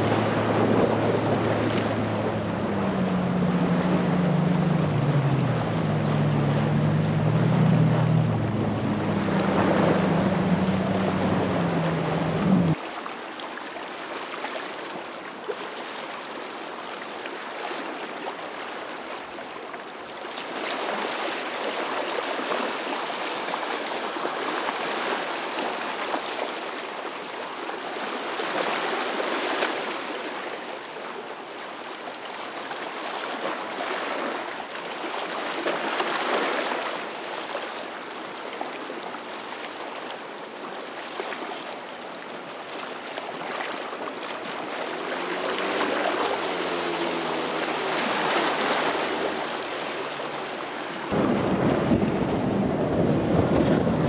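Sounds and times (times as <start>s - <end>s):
water rushing and splashing: 0.0s - 54.0s.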